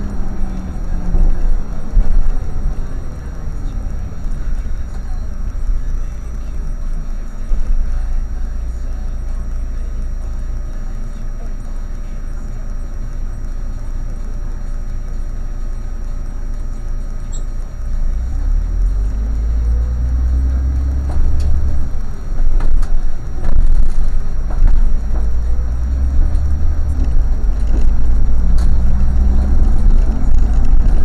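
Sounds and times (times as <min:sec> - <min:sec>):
vehicle engine idling: 0:00.0 - 0:31.0.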